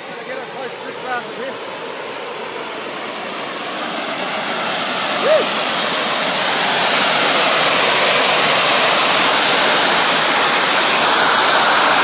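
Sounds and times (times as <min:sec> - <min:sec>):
steam jet hissing: 0:00.0 - 0:12.0.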